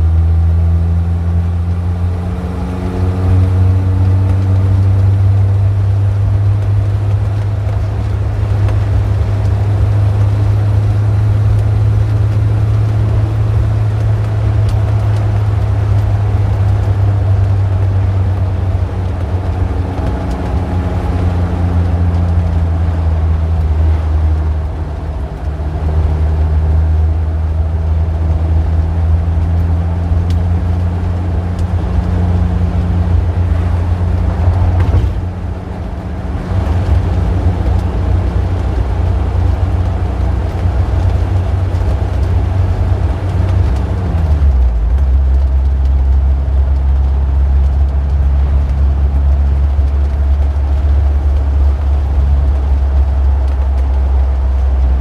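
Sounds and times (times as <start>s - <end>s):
motor vehicle engine drone: 0.0s - 55.0s
passing cars: 0.0s - 55.0s.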